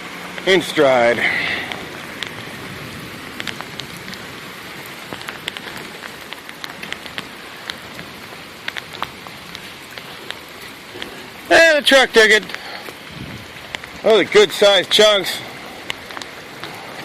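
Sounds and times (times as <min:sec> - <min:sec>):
raindrops ticking on surfaces: 0:00.0 - 0:17.0
steady rain hiss: 0:00.0 - 0:17.0.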